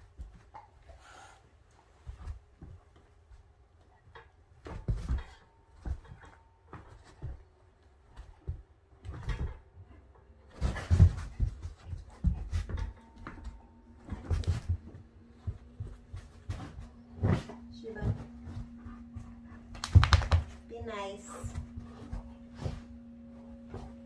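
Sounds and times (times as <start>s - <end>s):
animals scuffling and bumping: 4.0s - 24.0s.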